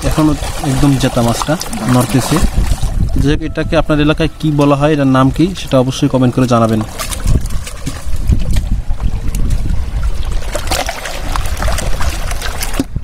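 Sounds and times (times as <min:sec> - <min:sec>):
water sloshing and splashing: 0:00.0 - 0:13.0
wind rumbling on microphone: 0:00.0 - 0:13.0.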